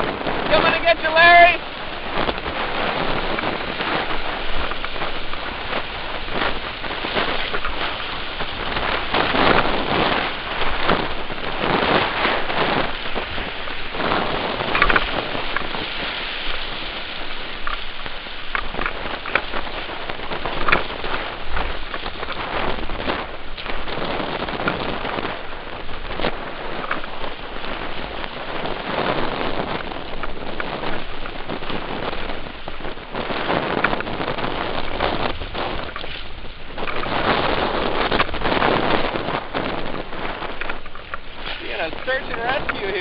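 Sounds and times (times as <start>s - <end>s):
waves splashing over kayak: 0.0s - 43.0s
whitewater rapid rushing: 0.0s - 43.0s.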